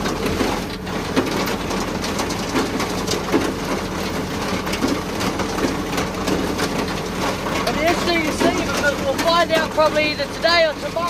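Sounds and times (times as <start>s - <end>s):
tractor engine running: 0.0s - 11.0s
wagon clattering rattle: 0.0s - 11.0s.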